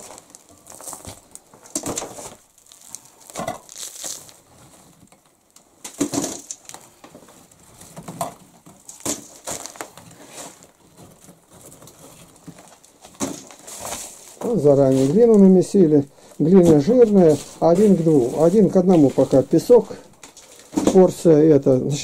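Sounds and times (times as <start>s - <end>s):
brick rubble crunching and scraping: 0.0s - 21.4s.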